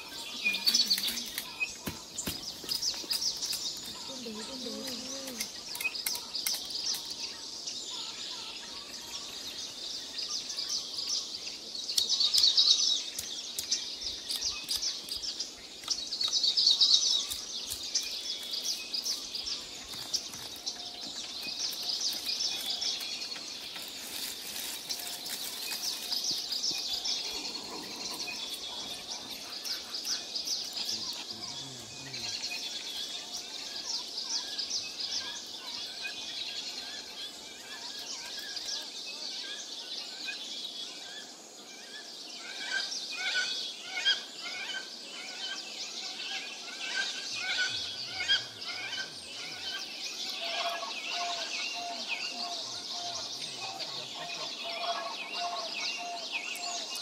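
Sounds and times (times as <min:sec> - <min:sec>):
birds chirping: 0:00.0 - 0:57.0
insects chirping: 0:00.0 - 0:57.0.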